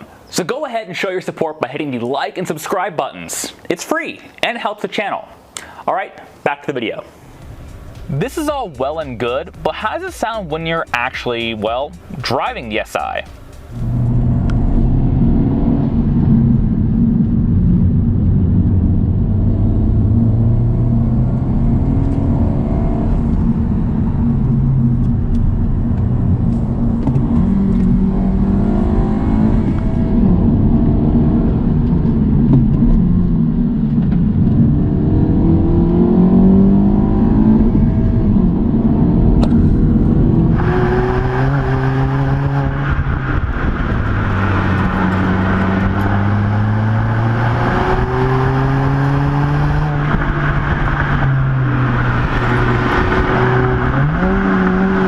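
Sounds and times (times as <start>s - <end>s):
car engine accelerating: 7.2s - 55.0s.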